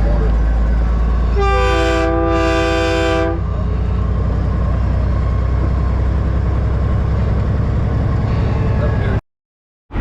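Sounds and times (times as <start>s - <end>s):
diesel truck engine droning: 0.0s - 9.2s.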